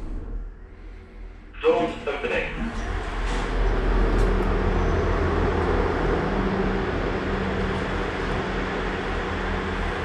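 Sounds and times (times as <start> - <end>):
continuous rushing noise: 1.5 - 10.0.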